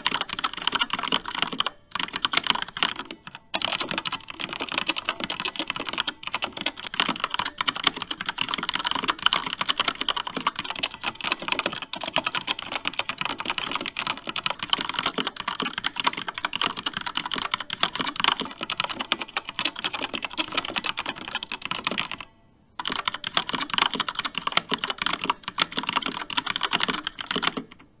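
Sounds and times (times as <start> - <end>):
mechanical keyboard typing: 0.0 - 28.0.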